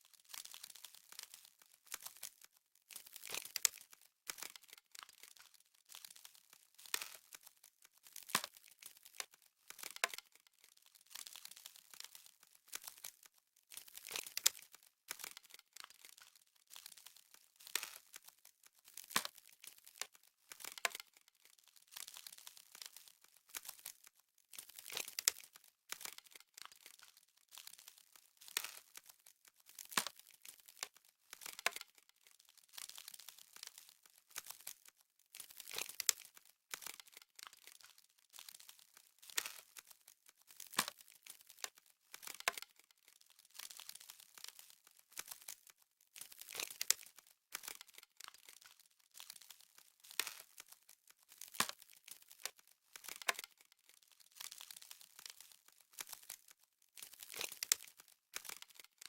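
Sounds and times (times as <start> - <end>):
frost crunching: 0.1 - 59.0.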